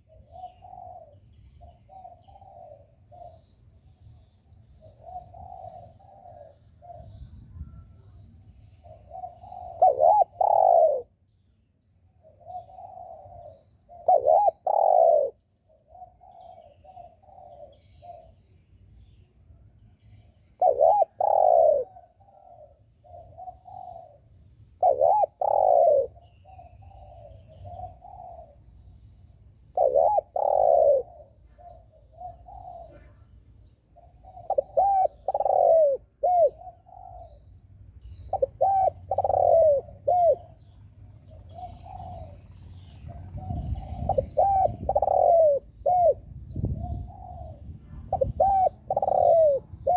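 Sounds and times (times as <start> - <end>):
dove cooing: 0.0 - 3.6, 4.6 - 11.2, 12.2 - 18.4, 20.5 - 28.8, 29.7 - 49.9
faint small-bird chirps: 0.0 - 24.2, 24.8 - 49.9.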